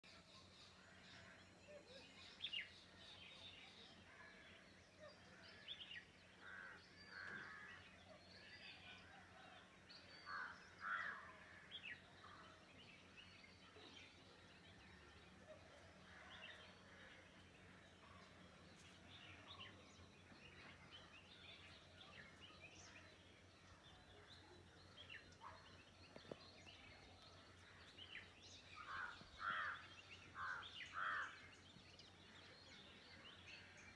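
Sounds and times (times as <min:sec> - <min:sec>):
birds calling and chirping: 0:00.1 - 0:33.9.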